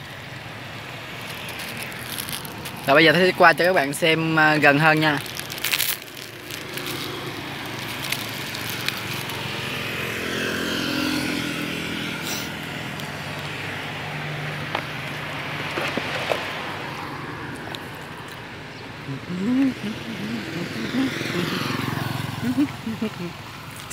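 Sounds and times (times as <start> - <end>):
motorbikes and cars passing: 0.0 - 23.9.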